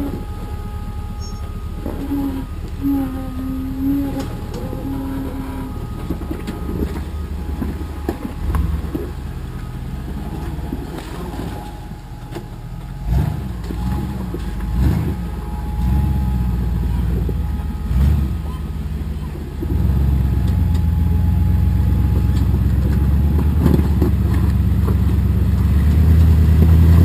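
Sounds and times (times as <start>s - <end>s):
off-road vehicle engine revving: 0.0s - 27.0s.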